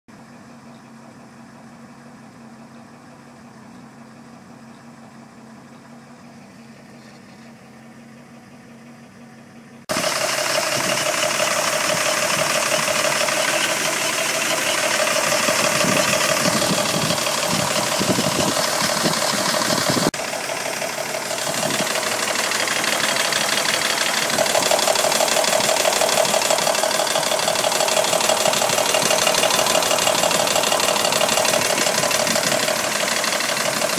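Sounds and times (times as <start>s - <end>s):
car engine idling: 0.1s - 33.9s
engine ticking rattle: 0.1s - 33.9s.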